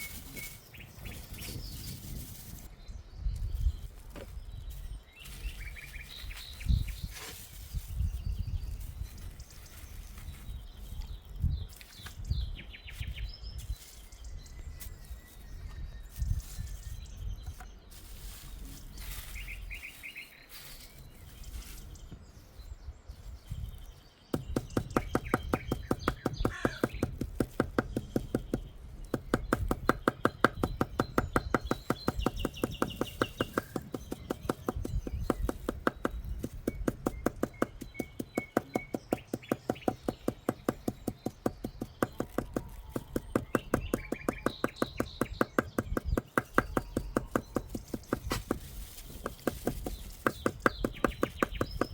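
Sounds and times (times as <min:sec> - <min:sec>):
birds chirping: 0:00.0 - 0:51.9.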